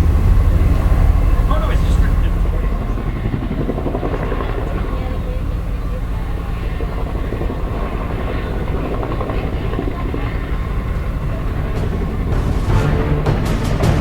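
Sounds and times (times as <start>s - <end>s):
helicopter blades pulsing: 0.0s - 14.0s
helicopter rotors rumbling: 0.0s - 14.0s.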